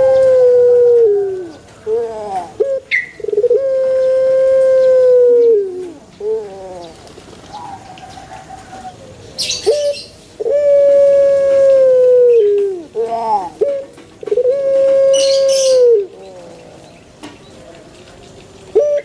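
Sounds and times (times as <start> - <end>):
dove cooing: 0.0 - 17.0, 18.7 - 19.0.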